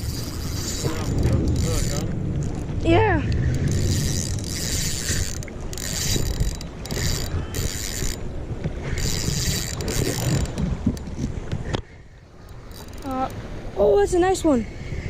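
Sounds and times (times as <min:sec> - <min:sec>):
fishing reel whirring and clicking: 0:00.0 - 0:13.4
wind rumbling on microphone: 0:00.0 - 0:15.0.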